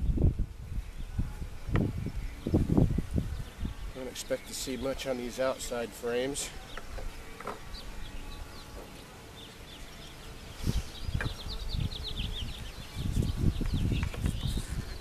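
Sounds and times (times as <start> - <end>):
honeybees buzzing: 0.1 - 15.0.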